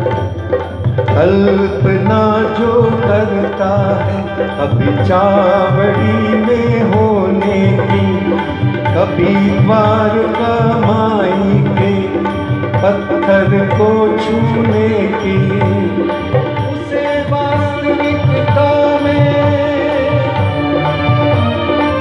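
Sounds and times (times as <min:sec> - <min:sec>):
tabla rhythm: 0:00.0 - 0:22.0
violin accompaniment: 0:00.0 - 0:22.0
man singing devotional song: 0:01.1 - 0:22.0.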